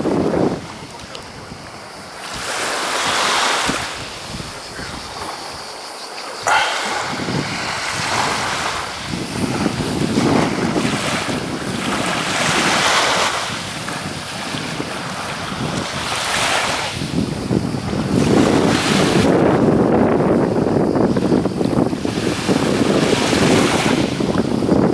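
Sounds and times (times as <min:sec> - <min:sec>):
waves washing on shingle beach: 0:00.0 - 0:24.9
wind gusting on microphone: 0:00.0 - 0:24.9.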